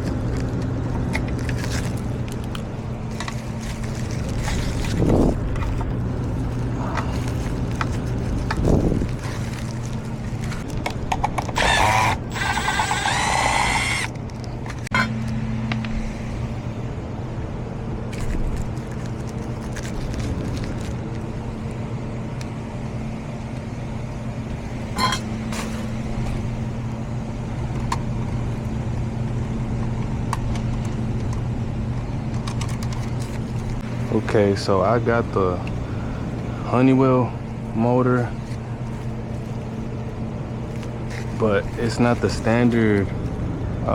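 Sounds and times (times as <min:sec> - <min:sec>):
high mechanical whine: 0:00.0 - 0:43.9
hvac system humming: 0:00.0 - 0:43.9.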